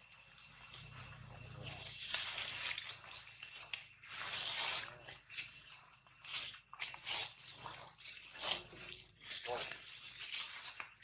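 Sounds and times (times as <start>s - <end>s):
faint high insect drone: 0.0s - 11.0s.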